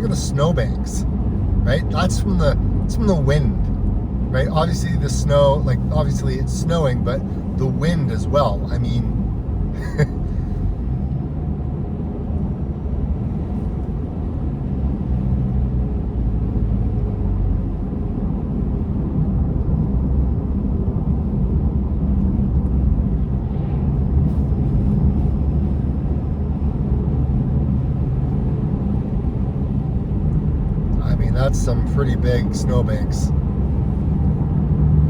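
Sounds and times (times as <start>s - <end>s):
car engine from inside cabin: 0.0s - 35.0s
tyres on road: 0.0s - 35.0s.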